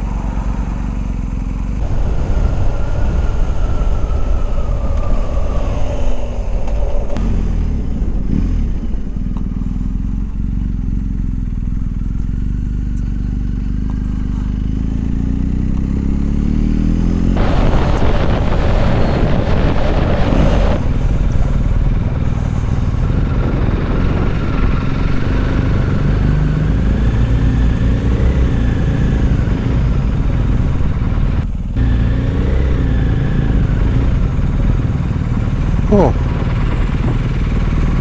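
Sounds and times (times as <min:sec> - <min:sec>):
motorcycle engine running: 0:00.0 - 0:38.0
wind noise: 0:00.0 - 0:38.0.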